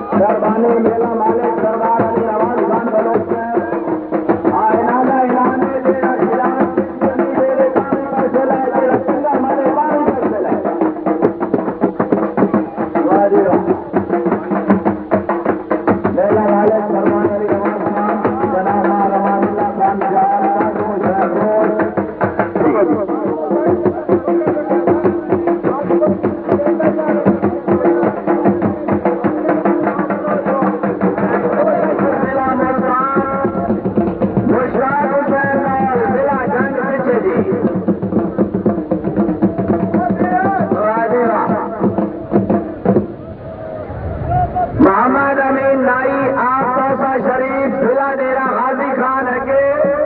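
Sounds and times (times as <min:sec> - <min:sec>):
music with fast drum strokes: 0:00.0 - 0:50.0.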